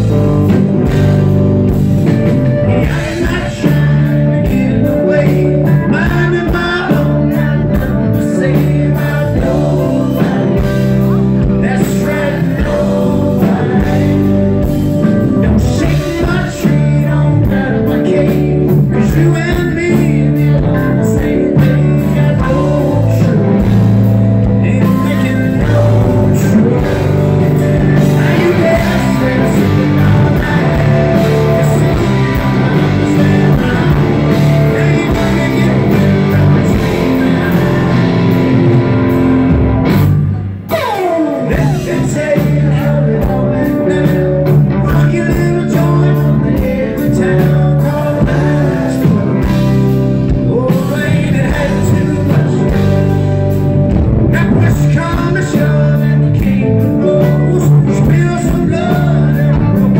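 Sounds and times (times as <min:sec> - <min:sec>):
person singing: 0:00.0 - 0:39.6, 0:40.3 - 0:59.9
live rock band playing: 0:00.0 - 0:59.9.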